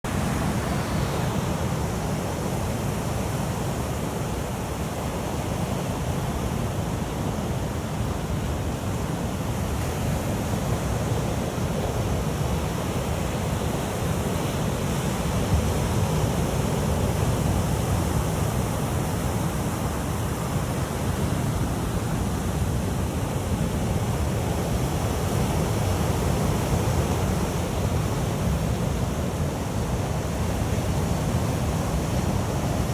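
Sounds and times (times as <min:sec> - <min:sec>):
sea waves washing on shore: 0:00.1 - 0:32.9.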